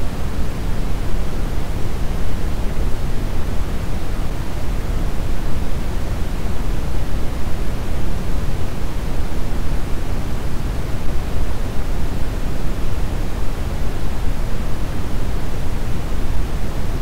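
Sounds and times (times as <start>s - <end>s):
low rumbling brown noise: 0.0s - 17.0s.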